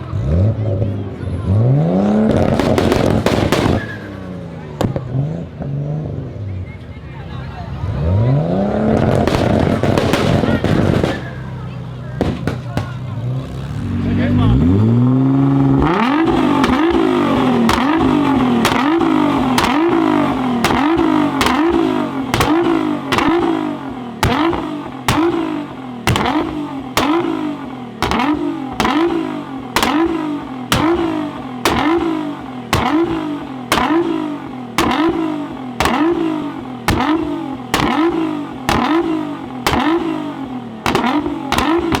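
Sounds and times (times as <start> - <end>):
car engine revving in blips: 0.0 - 6.5, 7.8 - 42.0.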